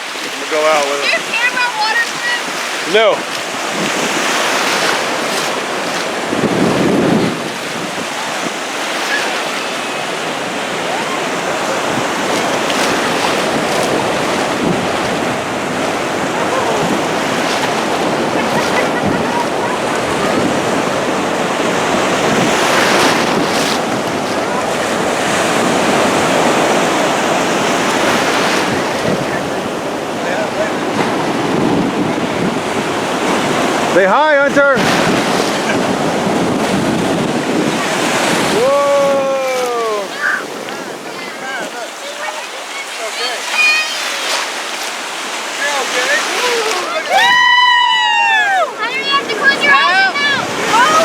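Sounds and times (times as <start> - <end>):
wind buffeting microphone: 0.0 - 41.8, 46.1 - 51.0
ocean surf washing onto beach: 0.0 - 51.0.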